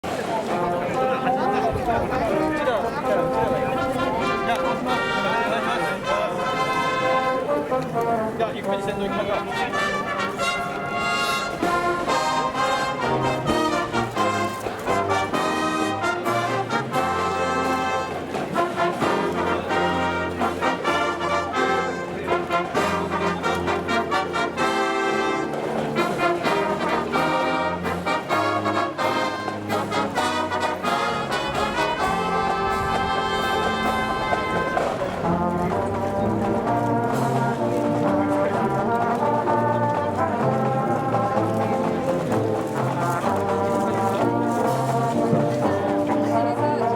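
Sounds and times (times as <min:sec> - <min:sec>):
marching band playing: 0:00.0 - 0:46.9
trumpets and trombones: 0:00.0 - 0:46.9.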